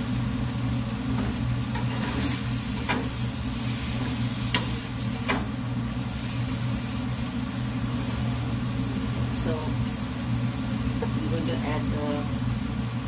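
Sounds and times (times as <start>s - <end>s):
food sizzling in frying pan: 0.0s - 13.0s
steady low hum: 0.0s - 13.0s.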